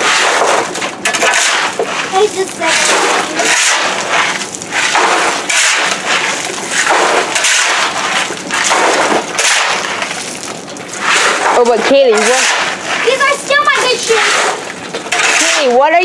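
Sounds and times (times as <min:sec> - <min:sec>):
shovel scraping gravel: 0:00.0 - 0:16.0.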